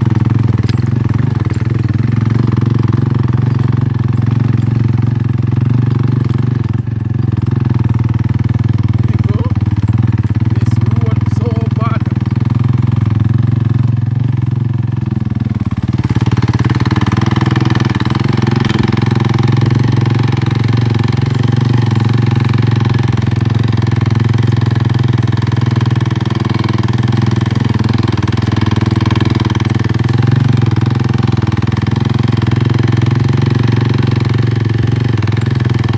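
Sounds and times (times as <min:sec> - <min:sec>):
small motorcycle engine running: 0:00.0 - 0:35.9.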